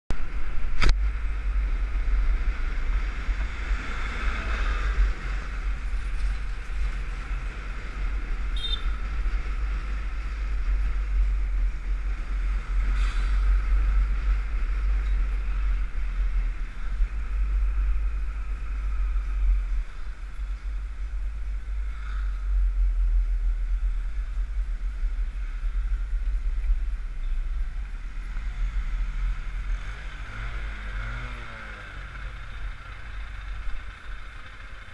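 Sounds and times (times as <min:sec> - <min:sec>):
road noise: 0:00.1 - 0:34.9
wind rumble on microphone: 0:00.1 - 0:34.9
motorcycle engine: 0:00.2 - 0:34.9.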